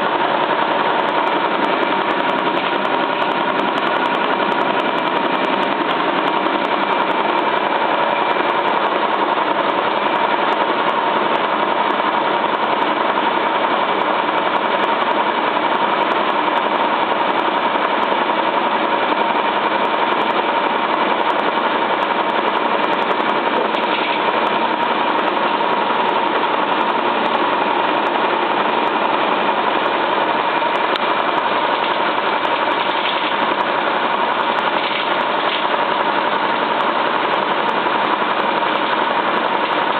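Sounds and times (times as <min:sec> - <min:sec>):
steady machine whine: 0:00.0 - 0:39.9
washing machine spinning: 0:00.0 - 0:39.9.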